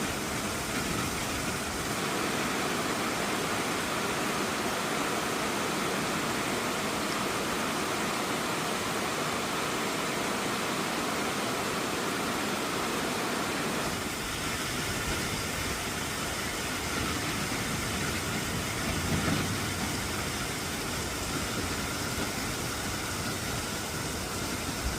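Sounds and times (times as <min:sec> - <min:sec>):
rain falling steadily: 0:00.0 - 0:24.9.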